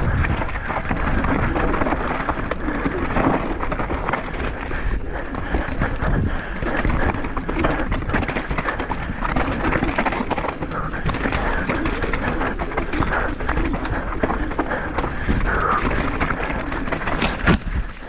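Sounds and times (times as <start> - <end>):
bike clattering over rocks: 0.0 - 18.0
wind noise on microphone: 0.0 - 18.0.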